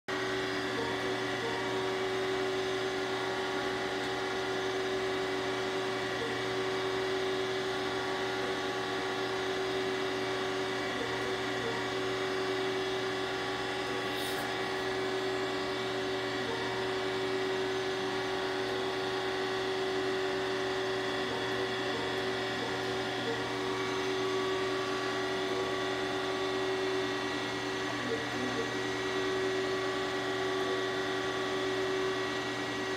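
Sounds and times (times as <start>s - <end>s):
surface grinder humming: 0.1s - 32.9s.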